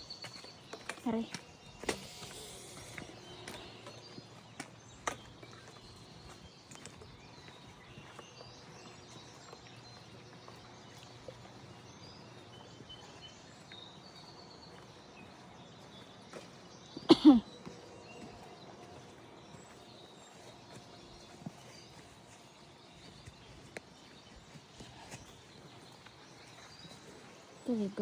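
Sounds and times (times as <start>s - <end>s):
bird chirps: 0.0s - 28.0s.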